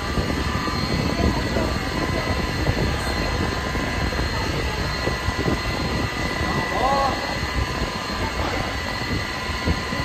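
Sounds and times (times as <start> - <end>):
machine drone: 0.0 - 10.0.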